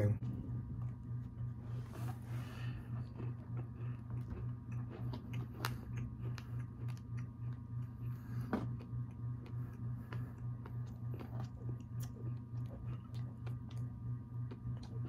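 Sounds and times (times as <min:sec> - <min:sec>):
cookie chewing close to microphone: 0:00.2 - 0:01.6, 0:02.5 - 0:15.0.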